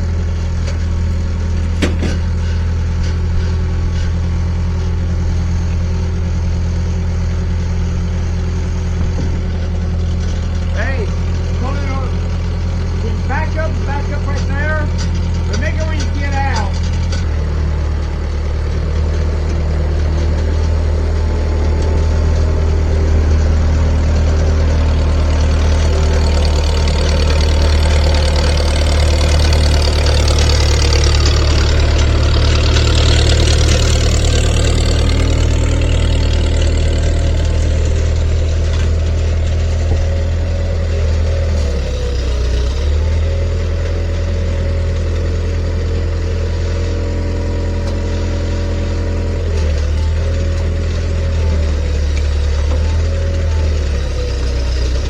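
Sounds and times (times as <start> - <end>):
heavy vehicle engine droning: 0.0 - 55.0.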